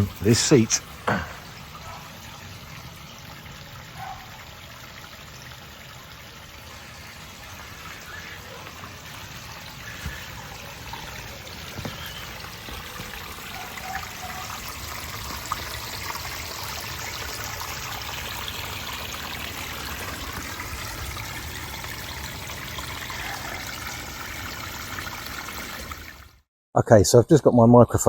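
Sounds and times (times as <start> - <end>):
water splashing over rocks: 0.0 - 26.3.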